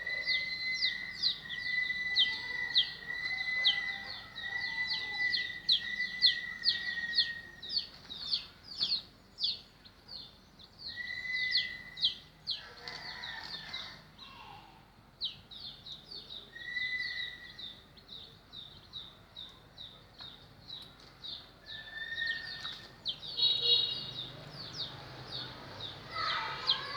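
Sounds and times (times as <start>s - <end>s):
chicks peeping: 0.2s - 13.9s, 15.2s - 26.9s.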